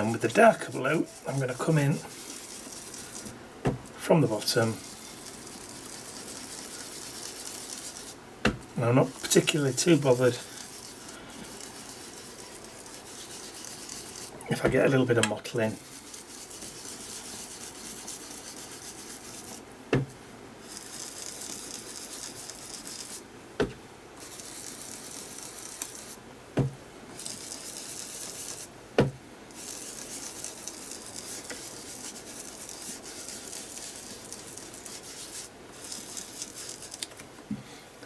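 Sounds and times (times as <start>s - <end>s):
ink tool rubbing on paper: 0.0s - 8.2s, 8.8s - 15.0s, 15.6s - 19.6s, 20.6s - 23.2s, 24.2s - 26.2s, 27.2s - 28.7s, 29.5s - 37.0s.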